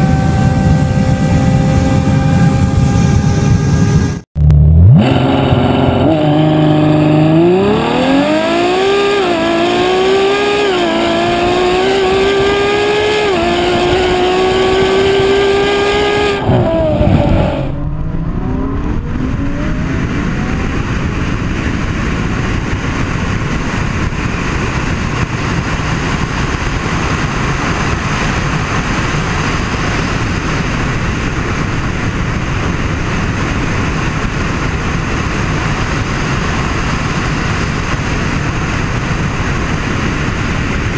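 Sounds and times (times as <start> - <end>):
car engine accelerating hard: 0.0 - 40.9
steady rushing noise: 0.0 - 40.9.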